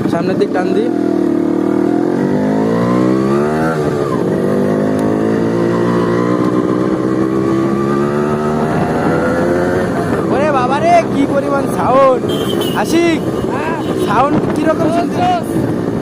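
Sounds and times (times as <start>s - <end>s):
motorcycle accelerating hard: 0.0s - 16.0s.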